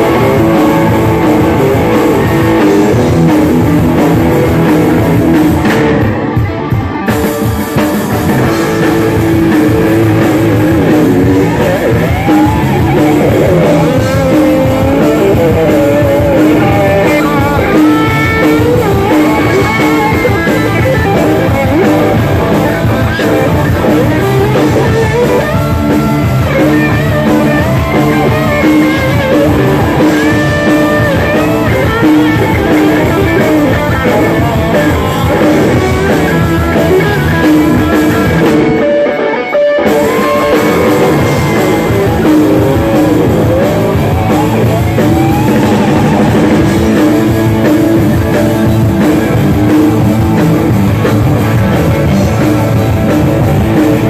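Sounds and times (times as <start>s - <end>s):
bending lead guitar notes: 0.0s - 54.0s
live rock band playing: 0.0s - 54.0s.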